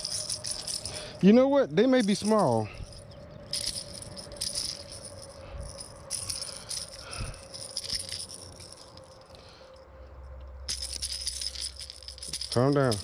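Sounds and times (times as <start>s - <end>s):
fishing lure hooks rattling: 0.0s - 1.2s, 1.9s - 9.4s, 10.7s - 13.0s.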